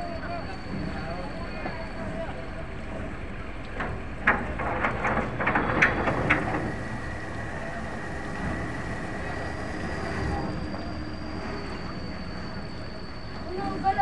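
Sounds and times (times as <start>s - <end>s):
faint high whine: 0.0s - 3.5s, 5.4s - 14.0s
boat engines rumbling: 0.0s - 14.0s.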